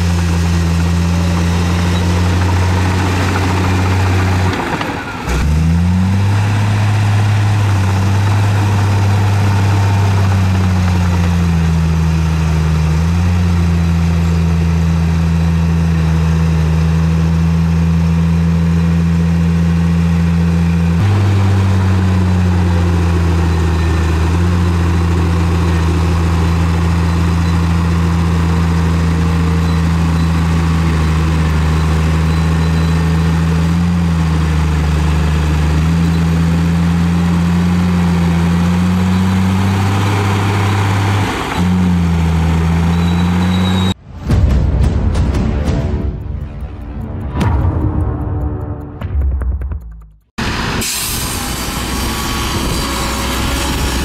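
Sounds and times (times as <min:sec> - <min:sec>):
heavy machinery diesel engine running: 0:00.0 - 0:44.0, 0:50.4 - 0:54.0.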